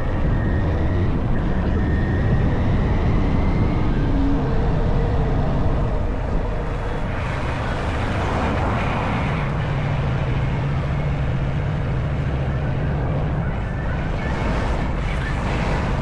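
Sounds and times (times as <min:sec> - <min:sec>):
wind rushing noise: 0:00.0 - 0:16.0.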